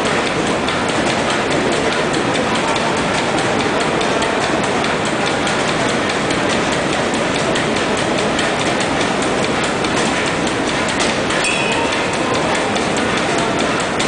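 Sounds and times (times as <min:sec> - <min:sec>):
old engine clattering: 0:00.0 - 0:14.0.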